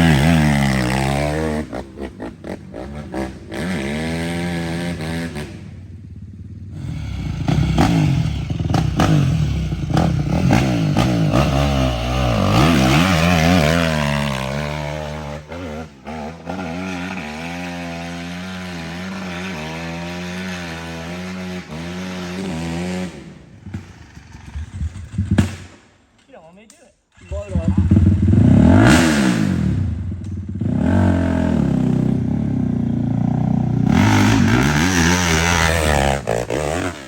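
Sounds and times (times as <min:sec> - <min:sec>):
dirt bike engine revving: 0:00.0 - 0:25.6, 0:27.2 - 0:37.0.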